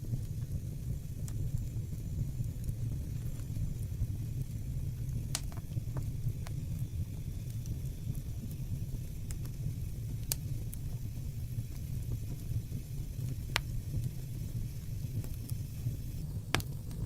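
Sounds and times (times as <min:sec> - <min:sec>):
fire burning: 0:00.0 - 0:17.0
fire crackles and pops: 0:00.0 - 0:17.0.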